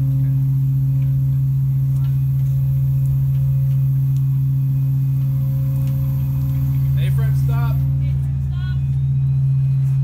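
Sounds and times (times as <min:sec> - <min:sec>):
ship machinery low hum: 0:00.0 - 0:10.0.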